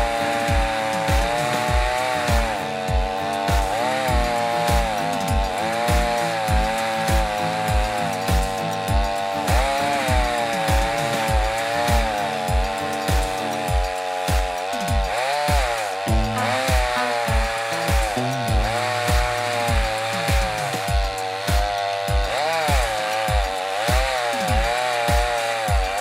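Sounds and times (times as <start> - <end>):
chainsaw ripping through log: 0.0 - 26.0
music with kick drum beat: 0.0 - 26.0.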